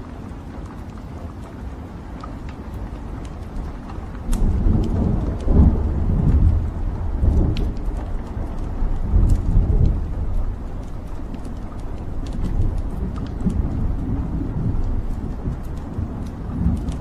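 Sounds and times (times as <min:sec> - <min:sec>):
logs popping and crackling: 0:00.0 - 0:17.0
low rumble of flames: 0:00.0 - 0:17.0.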